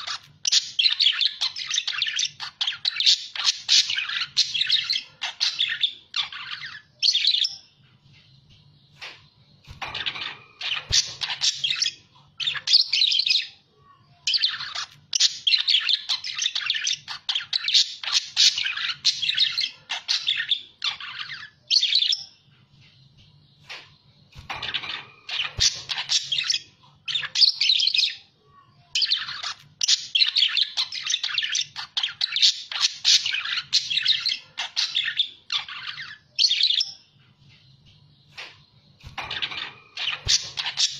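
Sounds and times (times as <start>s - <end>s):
budgerigars chattering and warbling: 0.0s - 7.6s, 9.0s - 13.6s, 14.3s - 22.3s, 23.6s - 28.2s, 29.0s - 37.0s, 38.3s - 40.9s.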